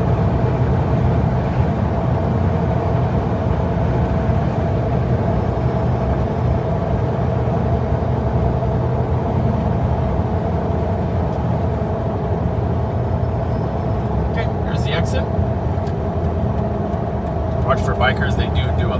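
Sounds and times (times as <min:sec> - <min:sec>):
road and engine noise inside car: 0:00.0 - 0:18.9.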